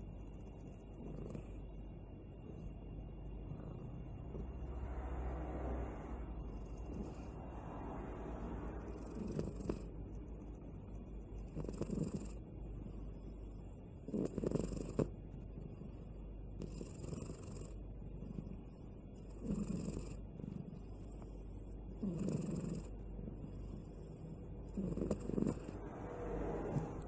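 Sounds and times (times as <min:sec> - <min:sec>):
cat snoring: 0:00.0 - 0:27.0.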